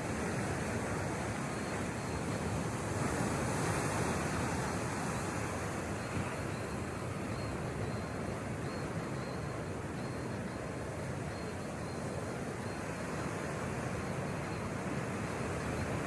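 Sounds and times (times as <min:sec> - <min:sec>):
ocean surf: 0:00.0 - 0:16.0
wind: 0:00.0 - 0:16.0.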